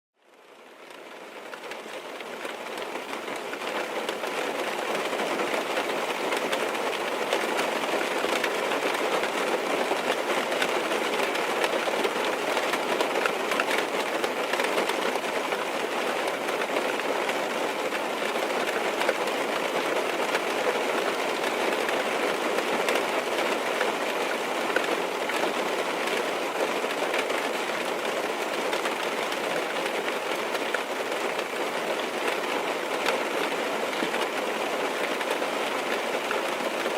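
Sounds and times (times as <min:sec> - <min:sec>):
rain on a car roof: 0:00.2 - 0:36.9.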